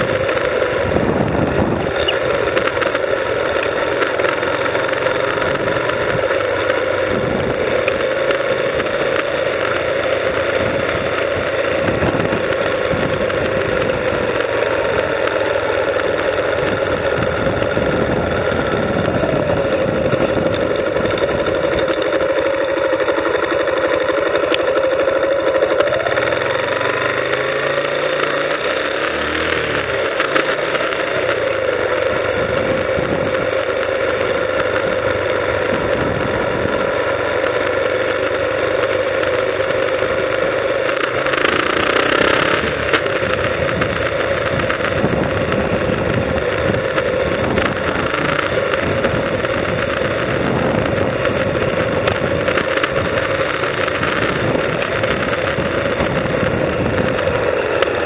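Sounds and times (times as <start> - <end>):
motorcycle engine running: 0.0 - 58.0
rush of noise: 0.0 - 58.0.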